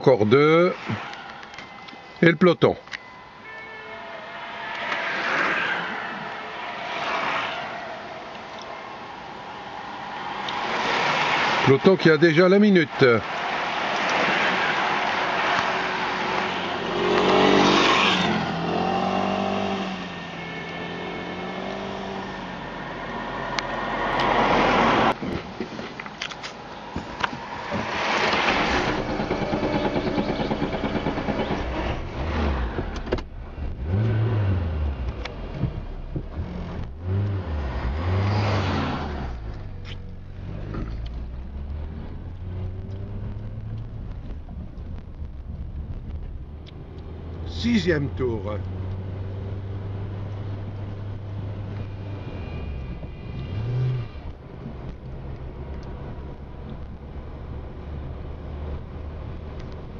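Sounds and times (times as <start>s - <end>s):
vehicles passing on road: 0.0s - 59.9s.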